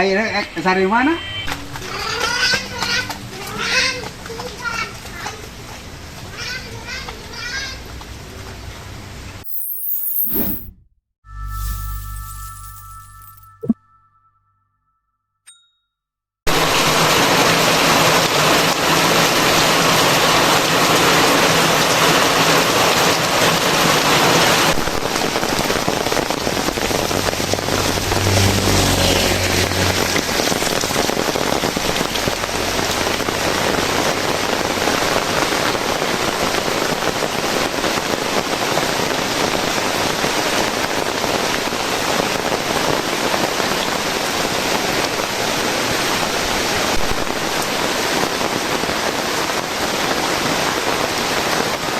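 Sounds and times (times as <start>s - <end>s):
heavy rain: 1.5s - 9.2s, 16.5s - 51.9s.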